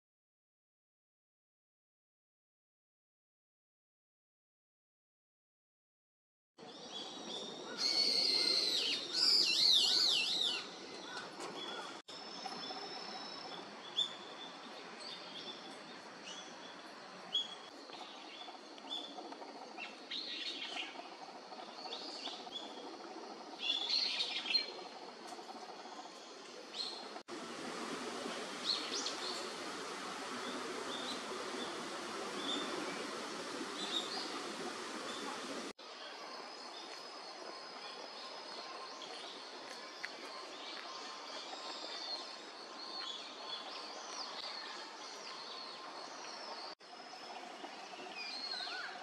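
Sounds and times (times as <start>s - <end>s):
outdoor background noise: 6.6s - 49.0s.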